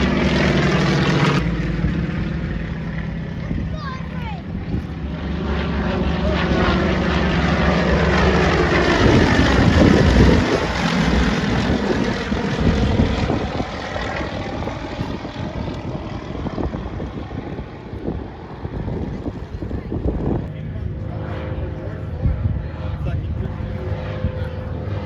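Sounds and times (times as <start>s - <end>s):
propeller aircraft flying past: 0.0s - 25.0s.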